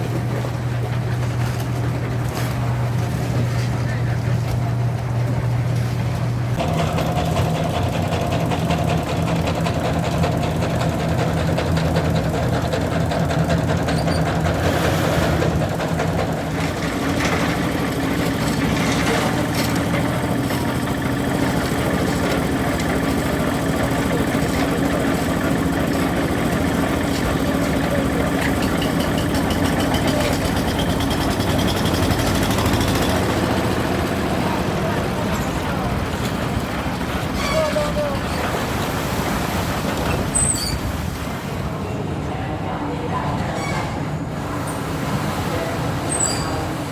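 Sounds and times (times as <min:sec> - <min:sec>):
machinery engine running: 0:00.0 - 0:41.7.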